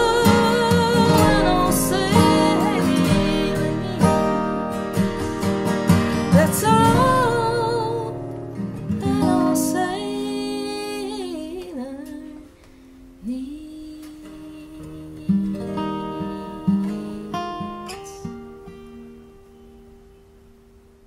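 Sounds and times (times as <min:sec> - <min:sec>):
acoustic guitars playing: 0:00.0 - 0:21.0.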